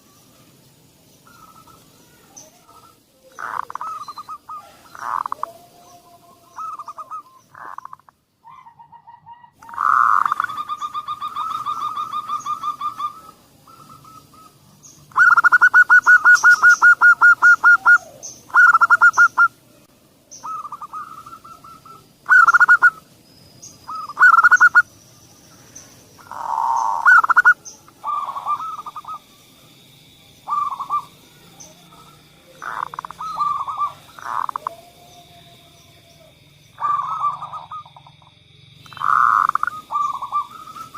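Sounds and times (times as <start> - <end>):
doves cooing: 1.2 - 19.6, 20.3 - 25.0, 25.7 - 40.9
dove rapid trills: 1.2 - 19.7, 20.3 - 40.9.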